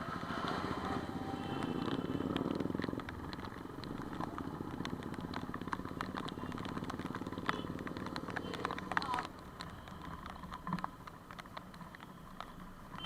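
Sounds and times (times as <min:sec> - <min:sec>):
motorcycle engine running: 0:00.0 - 0:12.1
sharp clicks and ticks: 0:00.0 - 0:13.0.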